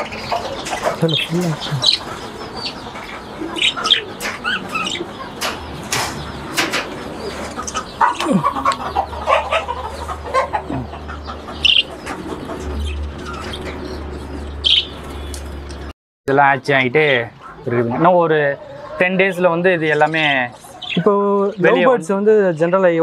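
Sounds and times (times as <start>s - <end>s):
budgerigars chirping and chattering: 0.0s - 15.9s, 16.6s - 23.0s.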